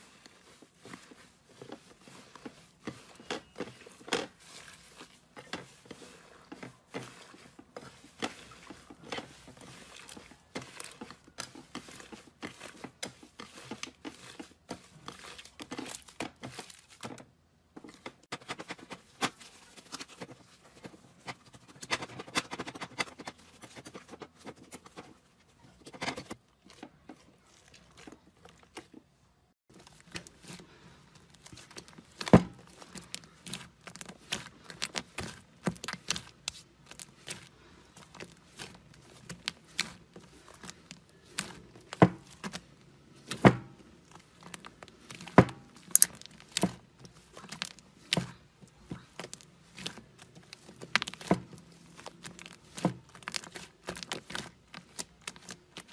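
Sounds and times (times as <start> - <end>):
slime crackling and squishing: 0.0 - 17.2, 17.9 - 55.9.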